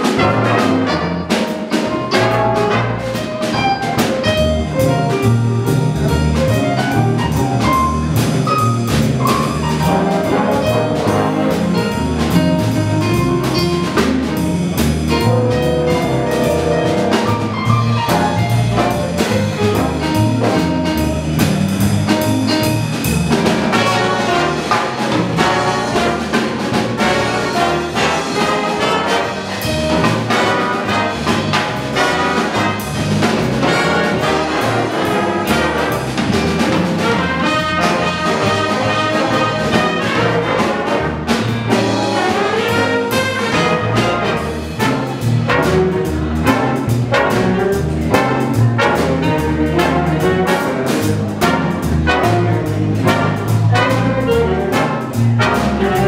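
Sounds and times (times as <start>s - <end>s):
big band jazz: 0.0s - 56.0s.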